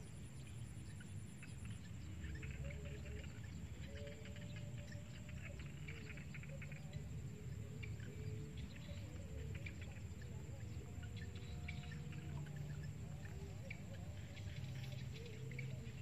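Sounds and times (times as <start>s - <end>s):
high insect whine: 0.0s - 16.0s
insects and birds chirping: 0.0s - 16.0s.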